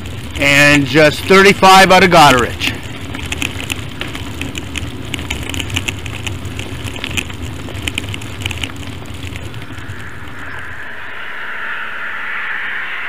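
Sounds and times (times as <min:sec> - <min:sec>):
sharp clicks and crackles: 0:00.0 - 0:10.9
wind and road rumble: 0:00.0 - 0:13.0.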